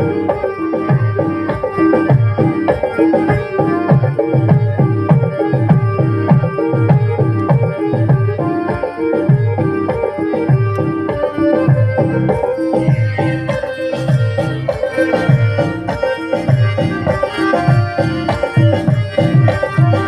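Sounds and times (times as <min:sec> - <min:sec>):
steady drum rhythm: 0:00.0 - 0:20.0
sustained melody notes: 0:00.0 - 0:20.0.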